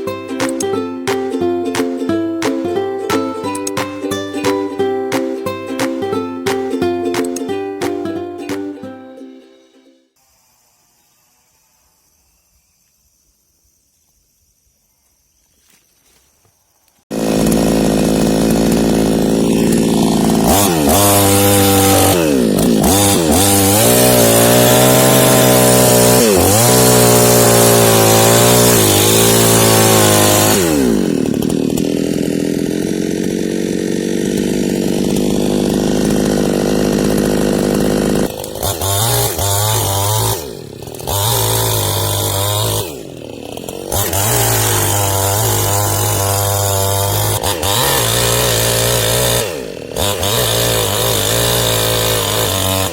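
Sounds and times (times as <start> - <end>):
chainsaw cutting wood: 0.0 - 9.0, 10.2 - 13.0, 16.8 - 52.9.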